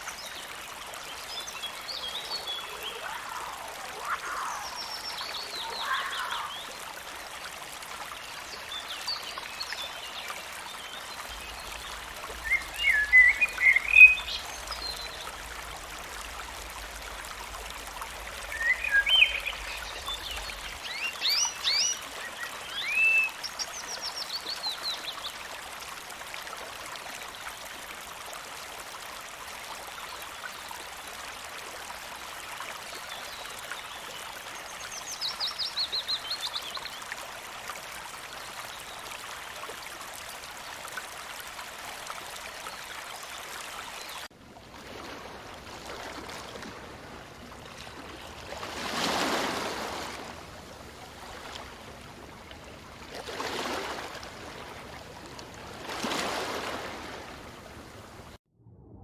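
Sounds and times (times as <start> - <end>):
rush like running water: 0.0 - 58.4.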